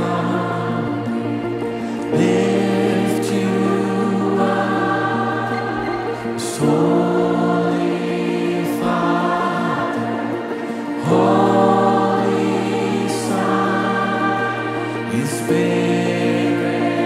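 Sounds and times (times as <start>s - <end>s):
worship music with voices singing: 0.0s - 17.0s.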